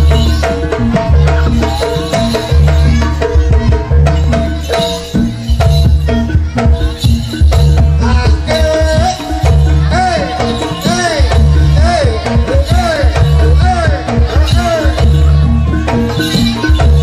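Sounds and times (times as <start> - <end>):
hand drums beating: 0.0 - 17.0
jingling rattle: 0.0 - 17.0
metallophone notes: 0.0 - 17.0.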